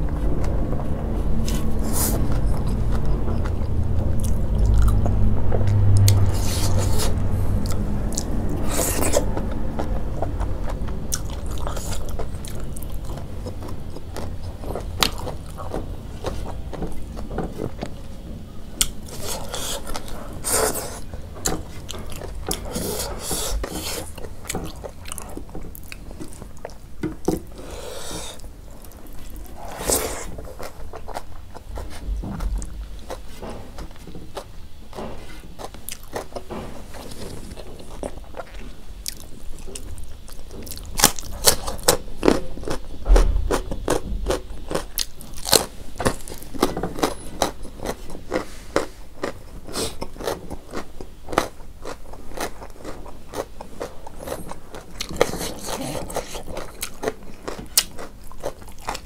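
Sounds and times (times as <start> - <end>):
chewing rice with wet mouth sounds: 0.0 - 18.1, 18.7 - 59.0.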